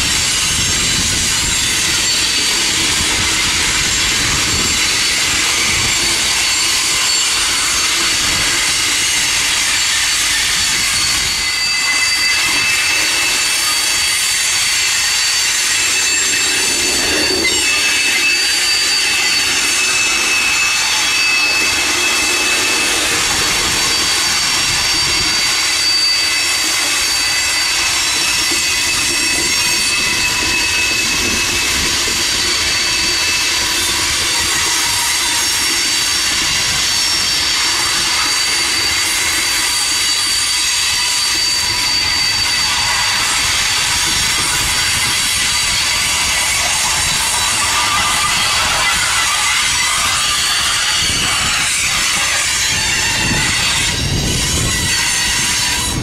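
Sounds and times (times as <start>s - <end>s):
freight train wheels rumbling: 0.0s - 56.0s
wheels squealing: 0.0s - 56.0s.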